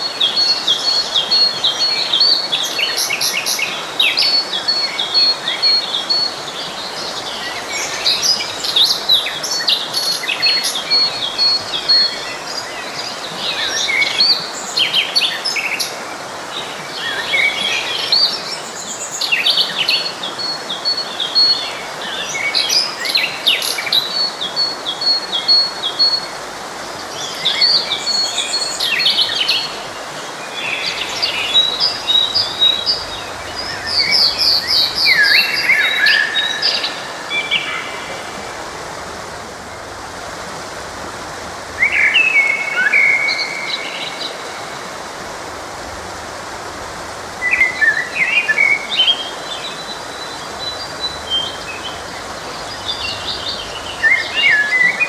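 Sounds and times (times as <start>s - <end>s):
forest stream rushing: 0.0s - 55.0s
songbirds chirping and trilling: 0.0s - 55.0s.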